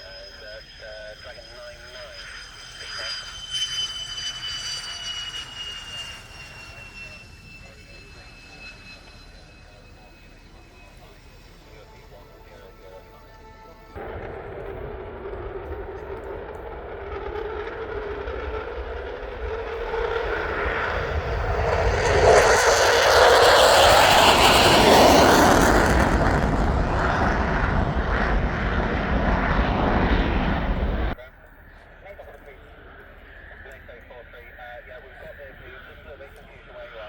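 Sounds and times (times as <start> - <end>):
jet engine roar passing: 0.0 - 31.2.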